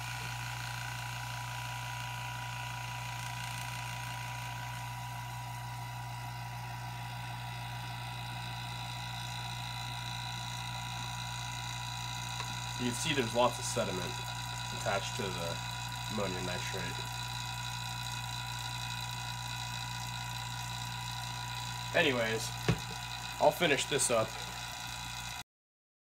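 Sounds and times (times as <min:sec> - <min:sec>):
vacuum pump humming: 0:00.0 - 0:25.4.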